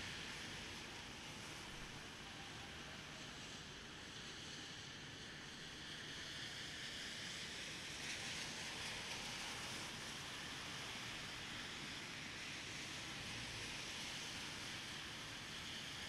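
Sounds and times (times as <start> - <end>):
rain on street: 0.0 - 16.0
traffic on wet road: 0.0 - 16.0.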